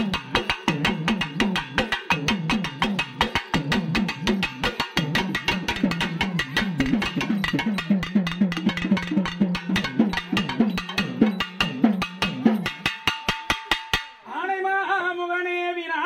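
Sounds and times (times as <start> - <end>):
drums played with sticks: 0.0 - 14.5.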